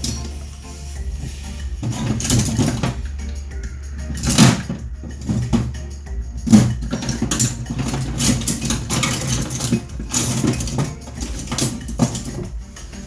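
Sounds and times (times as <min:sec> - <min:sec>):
small tools clicking and knocking: 0:00.0 - 0:00.6, 0:01.6 - 0:13.0
steady low hum: 0:00.0 - 0:13.0.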